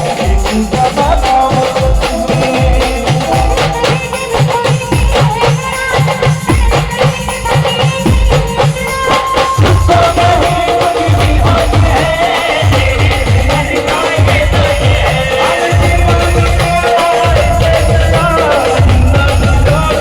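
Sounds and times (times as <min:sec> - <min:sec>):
driving drum beat: 0:00.0 - 0:20.0
rattling percussion: 0:00.0 - 0:20.0.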